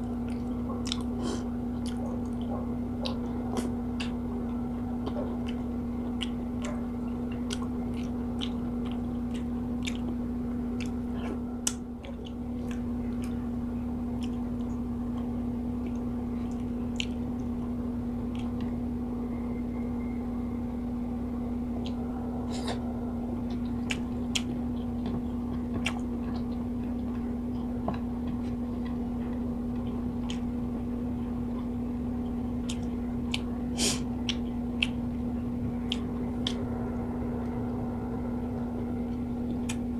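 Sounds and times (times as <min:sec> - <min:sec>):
person chewing food: 0:00.0 - 0:17.6, 0:18.2 - 0:18.8, 0:21.8 - 0:36.6, 0:39.1 - 0:39.9
steady low hum: 0:00.0 - 0:39.9.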